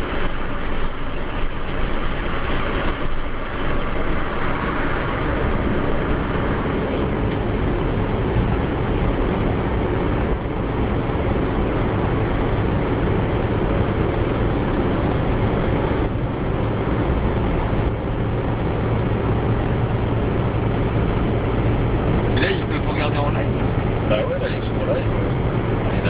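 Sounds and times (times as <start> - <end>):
road and engine noise inside car: 0.0 - 26.0.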